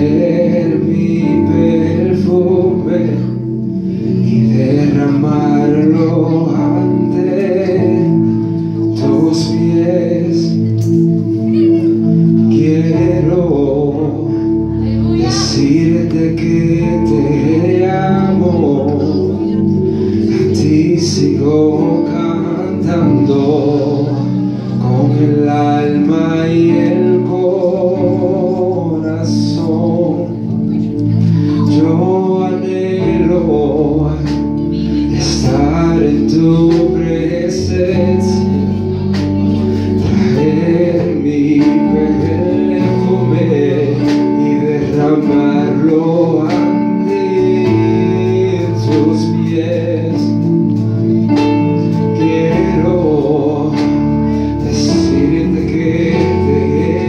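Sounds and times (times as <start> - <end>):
man singing into microphone: 0.0 - 57.0
synthesizer sustained chords: 0.0 - 57.0.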